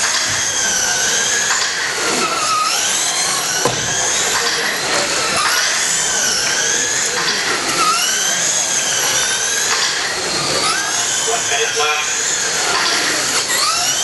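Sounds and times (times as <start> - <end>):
rc truck motors whining: 0.0 - 14.0.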